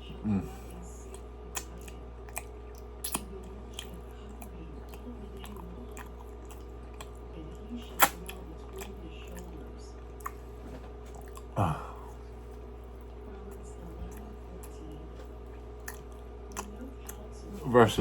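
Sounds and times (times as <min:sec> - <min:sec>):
person chewing with wet smacks: 0:00.0 - 0:18.0.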